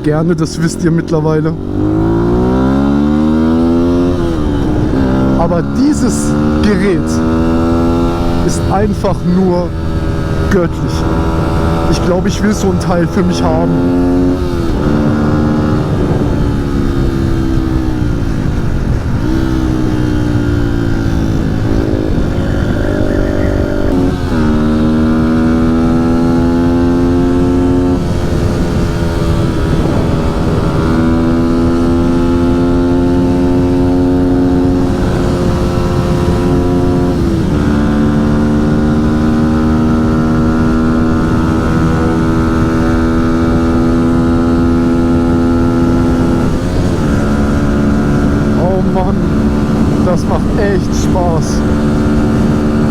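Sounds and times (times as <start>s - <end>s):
motorcycle engine at speed: 0.0s - 52.9s
wind buffeting microphone: 1.1s - 52.9s.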